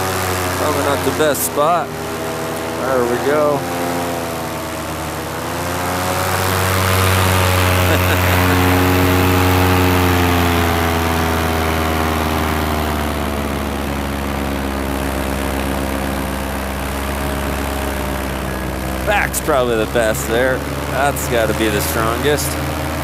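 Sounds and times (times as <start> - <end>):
paramotor engine and propeller: 0.0 - 23.0.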